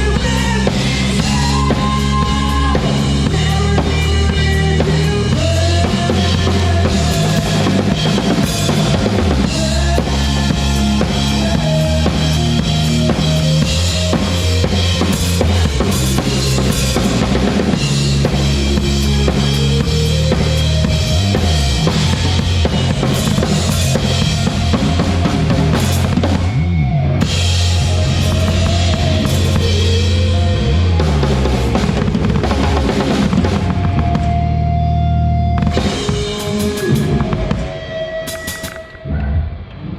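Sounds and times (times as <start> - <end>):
band playing live: 0.0 - 39.9.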